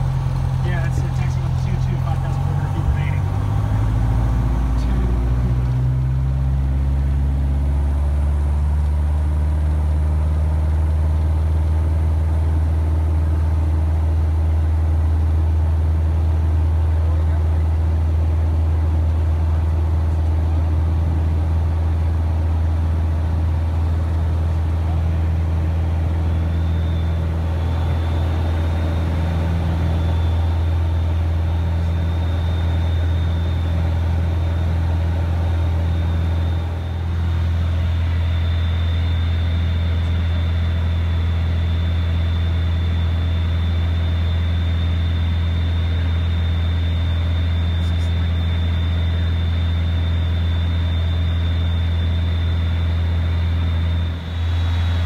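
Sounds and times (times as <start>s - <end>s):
aircraft engine and propeller drone: 0.0s - 55.0s
faint high whine: 0.0s - 55.0s.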